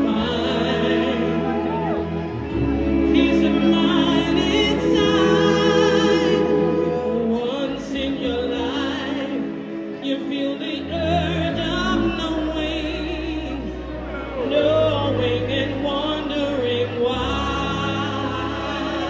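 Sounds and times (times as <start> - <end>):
band and orchestra playing: 0.0 - 19.0
singers holding long notes: 0.0 - 19.0.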